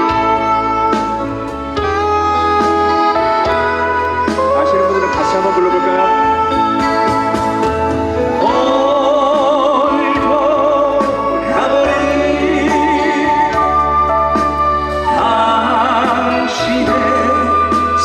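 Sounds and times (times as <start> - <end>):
live trot song with band: 0.0 - 18.0.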